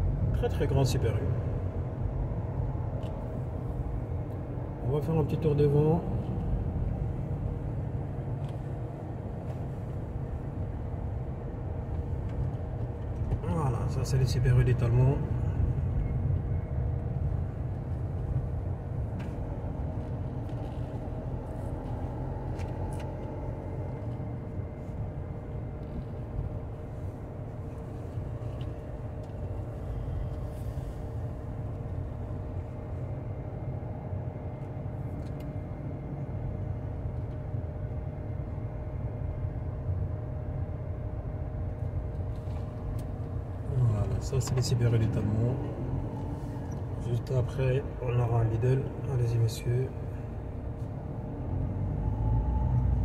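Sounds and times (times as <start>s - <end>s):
faint constant hum: 0.0s - 51.5s
car engine: 0.0s - 53.0s
road rumble: 0.0s - 53.0s.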